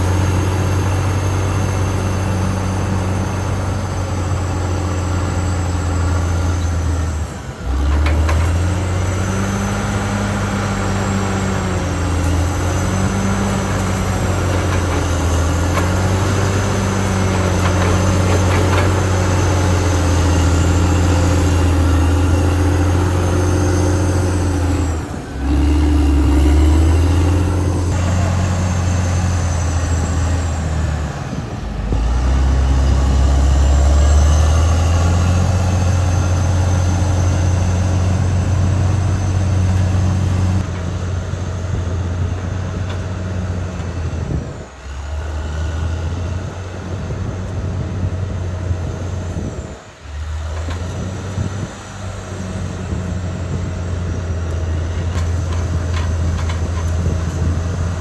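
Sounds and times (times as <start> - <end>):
bulldozer diesel engine drone: 0.0 - 58.0.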